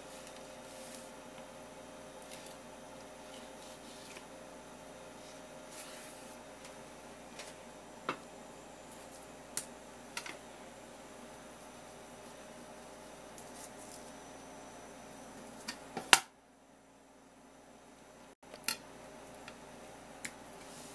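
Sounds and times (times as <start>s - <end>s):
faint room hum: 0.0s - 20.9s.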